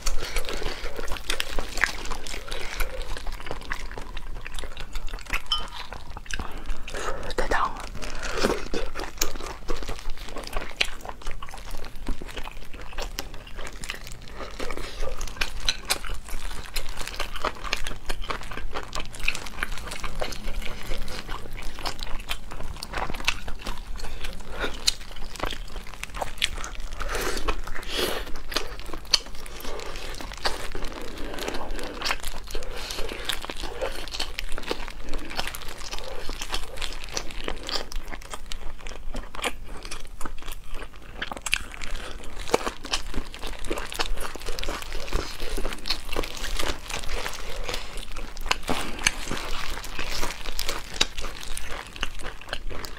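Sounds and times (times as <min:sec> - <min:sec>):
plastic gloves crinkling: 0:00.0 - 0:38.8, 0:40.9 - 0:52.9
wet chewing and lip smacks: 0:00.0 - 0:52.9.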